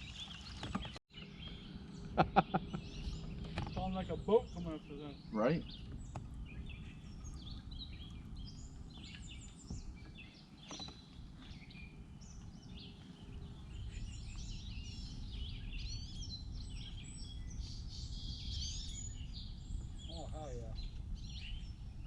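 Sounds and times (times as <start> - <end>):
birds chirping and trilling: 0.0 - 22.0
steady low rumble: 1.2 - 22.0.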